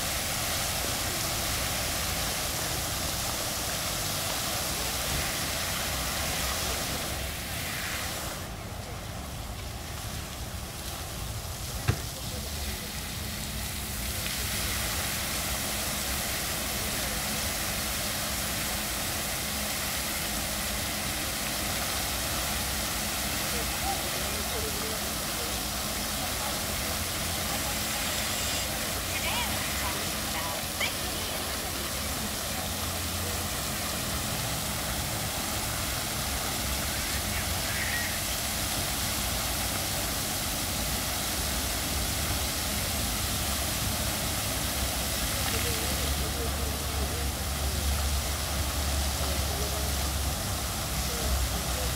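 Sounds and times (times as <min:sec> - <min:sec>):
fountain water splashing: 0:00.0 - 0:51.9.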